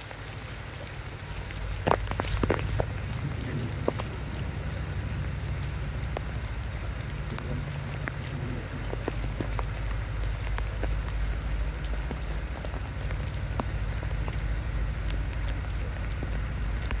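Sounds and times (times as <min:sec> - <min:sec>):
heavy rain pouring on street: 0:00.0 - 0:17.0
low rumble: 0:00.0 - 0:17.0.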